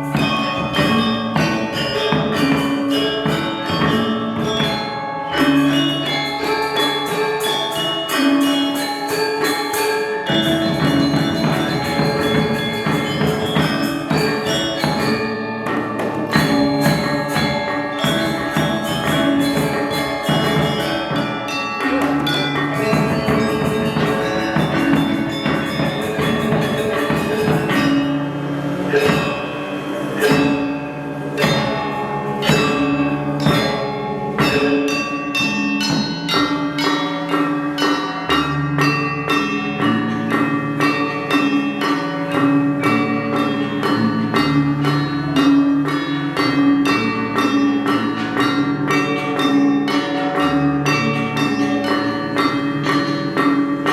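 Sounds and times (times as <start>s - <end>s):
gamelan ensemble playing: 0.0s - 53.9s.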